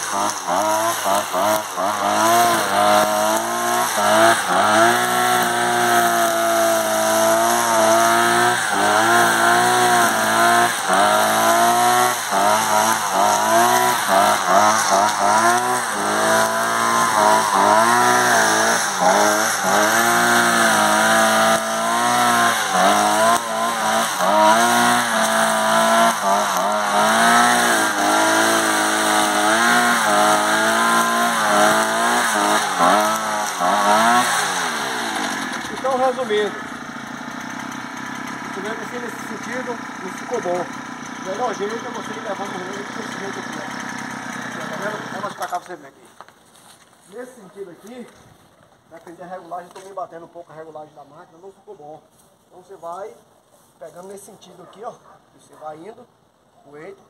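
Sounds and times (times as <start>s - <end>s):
brushcutter engine revving: 0.0s - 45.9s.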